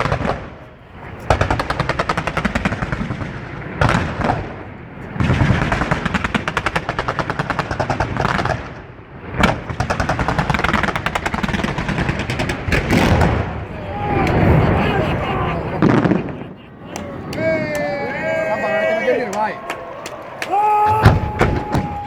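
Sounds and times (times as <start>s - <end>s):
fireworks firing in rapid salvos: 0.0s - 17.7s, 19.1s - 22.0s.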